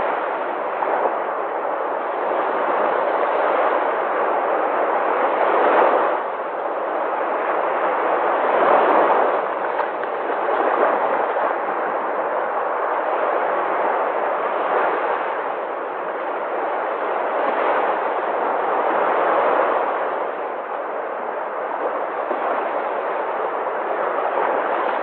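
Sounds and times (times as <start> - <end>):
sea waves breaking: 0.0 - 25.0.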